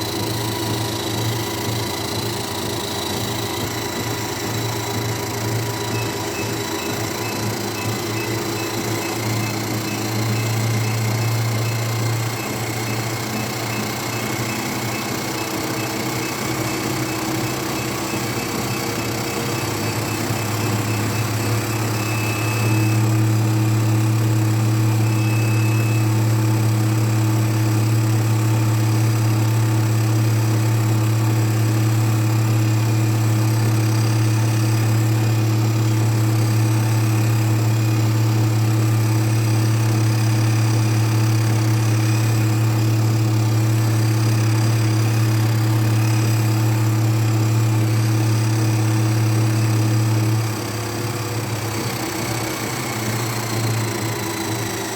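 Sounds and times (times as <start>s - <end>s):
treadmill motor hum: 0.0s - 54.9s.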